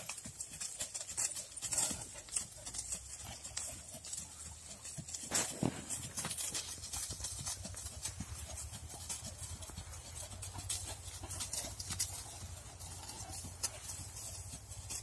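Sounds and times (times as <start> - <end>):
donkey hooves on sandy ground: 0.0 - 15.0.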